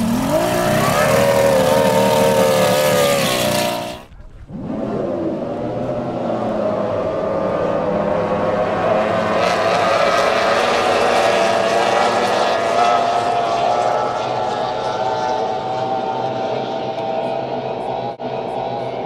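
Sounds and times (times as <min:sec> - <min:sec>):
racing outboard engines at full throttle: 0:00.0 - 0:19.0.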